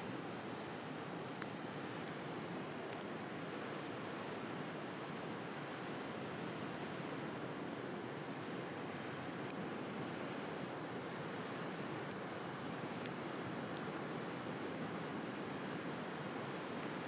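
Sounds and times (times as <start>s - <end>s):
faint wood fire crackles: 0.2s - 17.0s.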